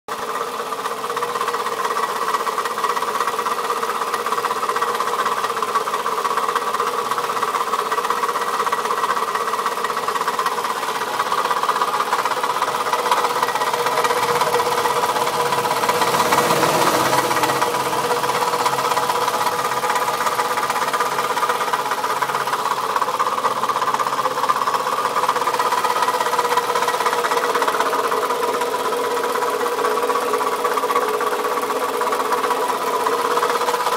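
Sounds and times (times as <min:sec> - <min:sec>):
car engine knocking: 0:00.1 - 0:33.9.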